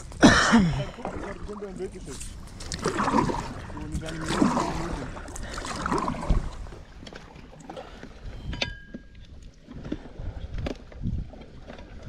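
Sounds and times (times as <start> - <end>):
wind on microphone: 0.0 - 7.0, 7.8 - 12.0
paddle strokes in water: 0.9 - 12.0.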